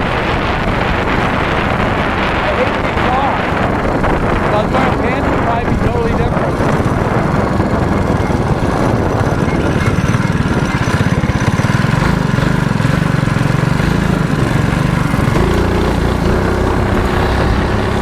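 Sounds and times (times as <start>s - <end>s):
mini bike engine revving: 0.0s - 18.0s.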